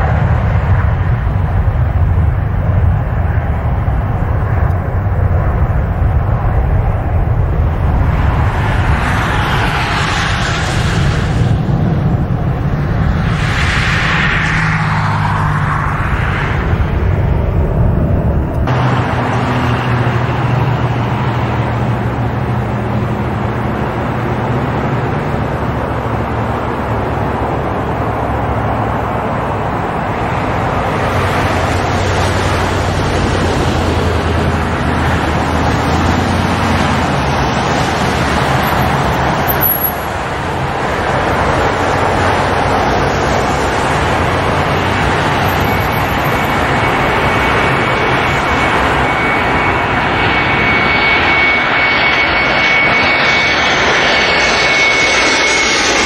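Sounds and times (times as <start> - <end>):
jet engine noise: 0.0 - 56.0.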